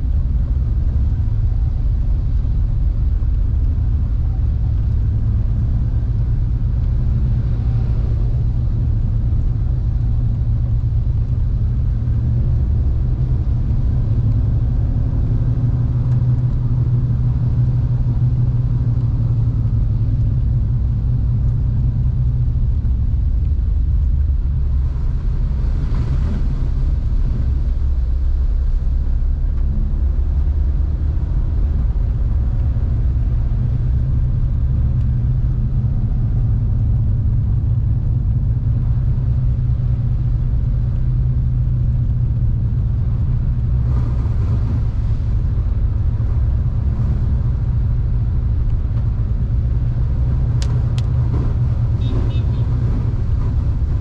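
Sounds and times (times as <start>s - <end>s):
engine and tyres rumbling: 0.0s - 54.0s
rain and water hiss: 0.0s - 54.0s.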